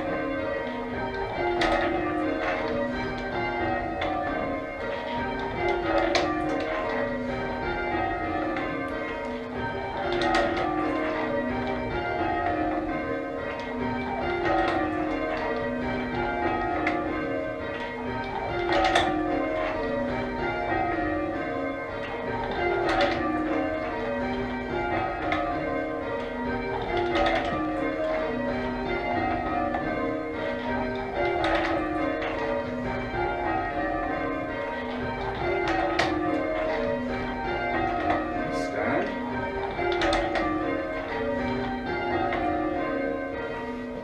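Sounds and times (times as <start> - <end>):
church bells change ringing: 0.0 - 44.0.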